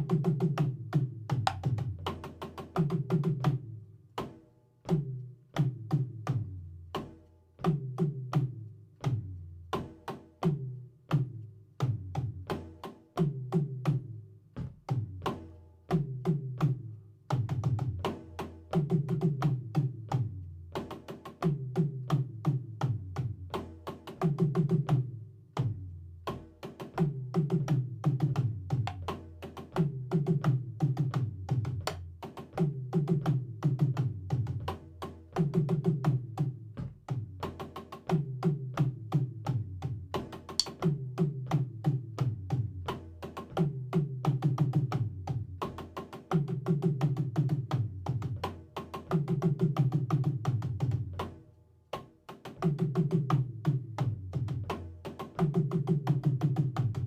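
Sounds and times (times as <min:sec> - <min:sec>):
drum kit groove: 0:00.0 - 0:57.0.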